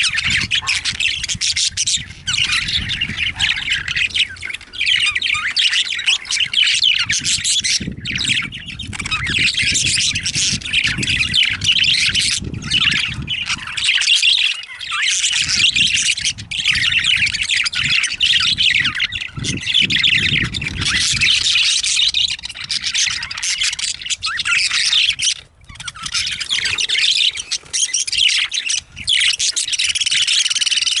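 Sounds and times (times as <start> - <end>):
budgerigars chattering: 0.0 - 31.0.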